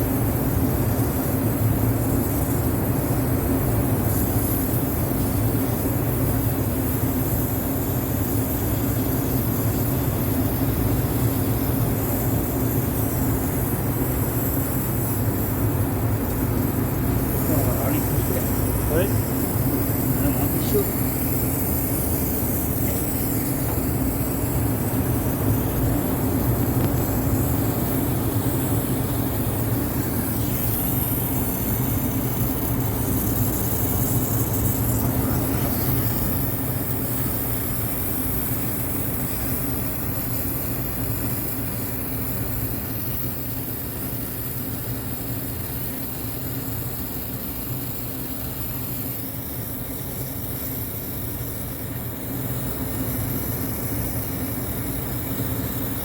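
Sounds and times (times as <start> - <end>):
air conditioning machinery humming: 0.0 - 56.0.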